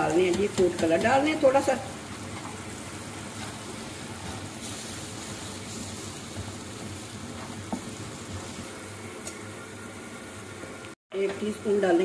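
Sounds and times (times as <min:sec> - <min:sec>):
sauce sizzling in hot oil: 0:00.0 - 0:10.9.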